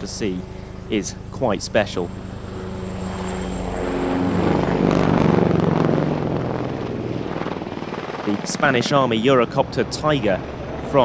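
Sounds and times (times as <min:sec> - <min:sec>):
helicopter rotor and engines: 0:00.0 - 0:11.0.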